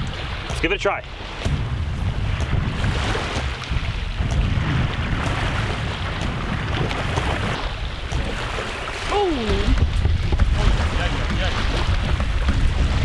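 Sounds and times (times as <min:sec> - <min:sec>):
small waves lapping shoreline: 0:00.0 - 0:13.0
wind buffeting microphone: 0:00.0 - 0:13.0.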